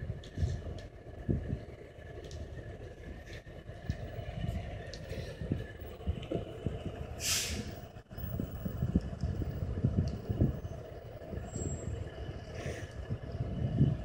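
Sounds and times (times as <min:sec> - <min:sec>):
fire engine rumbling: 0:00.0 - 0:14.0.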